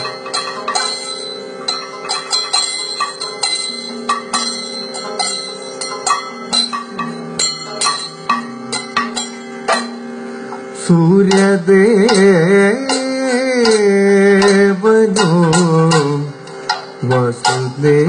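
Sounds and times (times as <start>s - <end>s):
ringing metal percussion: 0.0s - 18.0s
steady drone: 0.0s - 18.0s.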